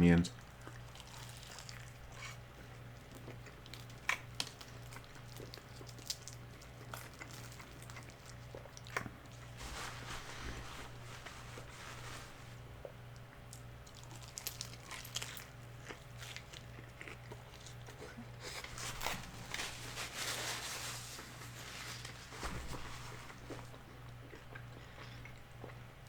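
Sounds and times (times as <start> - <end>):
crunchy chewing: 0.4 - 26.0.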